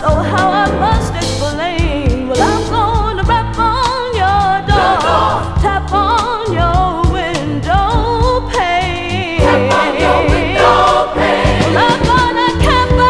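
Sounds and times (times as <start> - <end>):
bass line: 0.0 - 13.0
gospel soul song: 0.0 - 13.0
drum beat: 0.9 - 8.4, 9.4 - 13.0.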